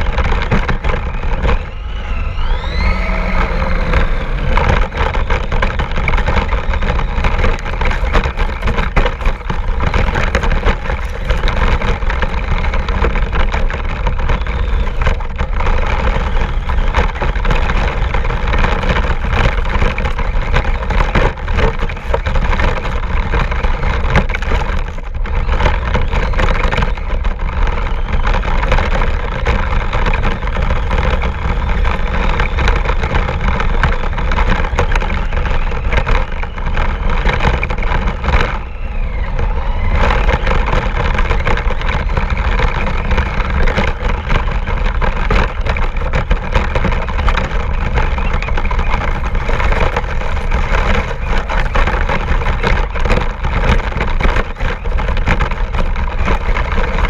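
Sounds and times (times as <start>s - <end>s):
rc car rattling on rough ground: 0.0s - 57.0s.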